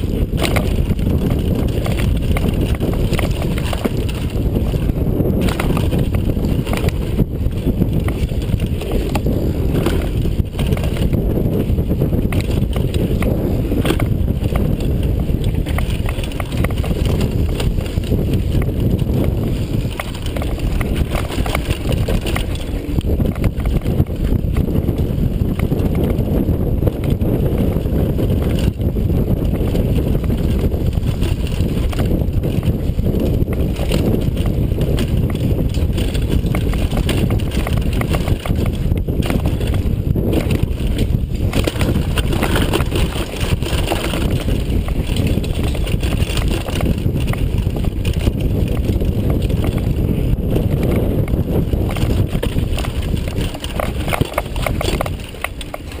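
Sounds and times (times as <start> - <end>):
bike rattling and knocking: 0.0 - 56.0
bike tyres on rough trail: 0.0 - 56.0
wind on microphone: 0.0 - 56.0.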